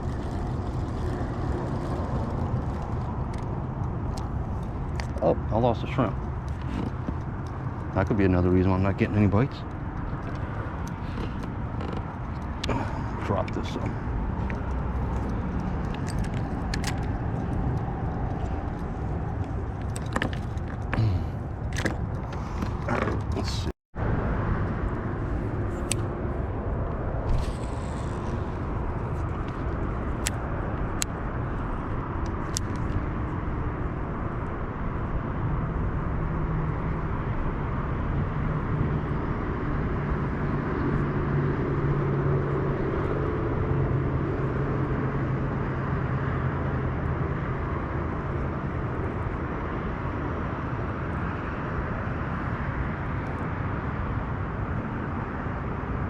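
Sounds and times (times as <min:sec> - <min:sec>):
distant engine drone: 0:00.0 - 0:56.0.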